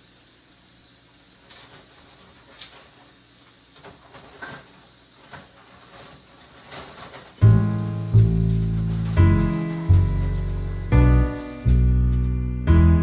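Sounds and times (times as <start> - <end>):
low hiss: 0.0 - 12.2.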